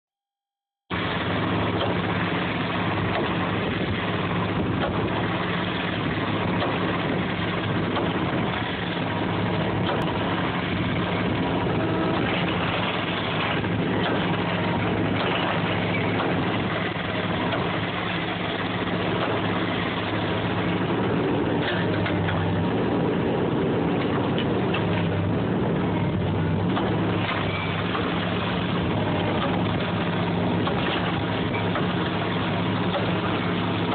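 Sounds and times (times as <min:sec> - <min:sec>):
pile hammer mechanical drone: 0:00.9 - 0:33.9.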